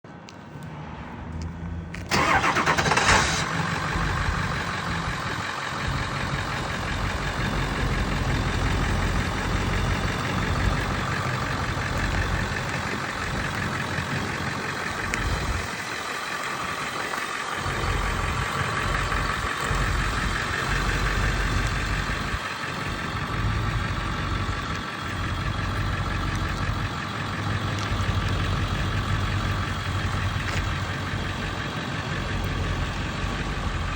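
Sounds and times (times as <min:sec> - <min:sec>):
diesel engine starting and idling: 0:00.3 - 0:33.9.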